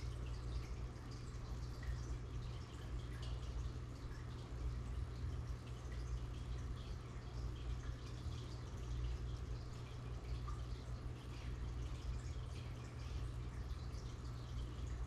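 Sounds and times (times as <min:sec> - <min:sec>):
aquarium water bubbling: 0:00.0 - 0:15.0
steady low hum: 0:00.0 - 0:15.0.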